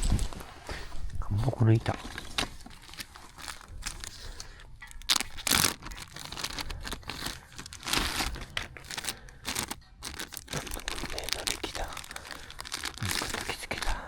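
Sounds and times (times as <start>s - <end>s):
wrapping crumpled and torn: 0.0s - 14.0s.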